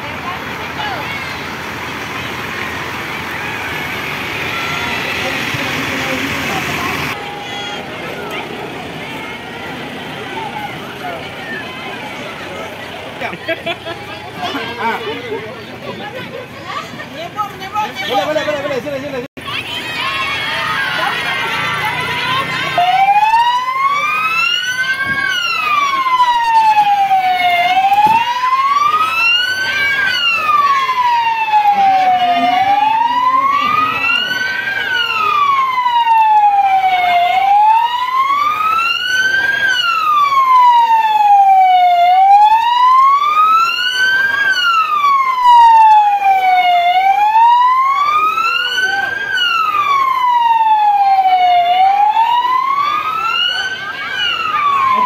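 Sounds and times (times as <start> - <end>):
emergency siren wailing: 0.0 - 13.2, 19.7 - 55.0.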